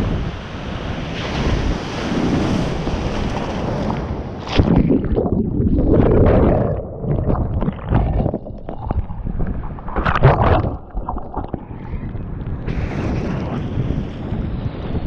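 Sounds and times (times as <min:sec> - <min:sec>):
wind buffeting microphone: 0:00.0 - 0:15.0
water splashing around kayak: 0:00.5 - 0:15.0.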